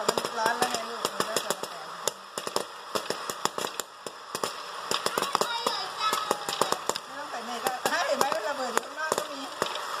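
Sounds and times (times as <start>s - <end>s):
popcorn kernels popping: 0.0s - 10.0s.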